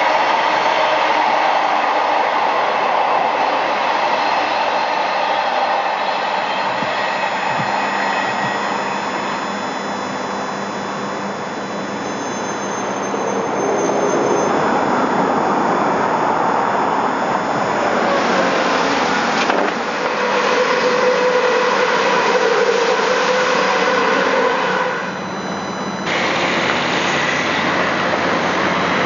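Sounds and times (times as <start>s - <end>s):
tram running: 0.0s - 25.2s, 26.0s - 29.0s.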